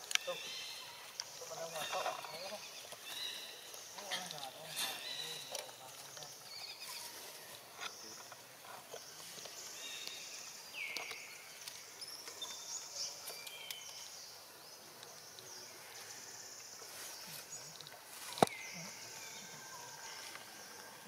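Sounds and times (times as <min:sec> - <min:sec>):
bird and insect chirps: 0:00.0 - 0:21.0.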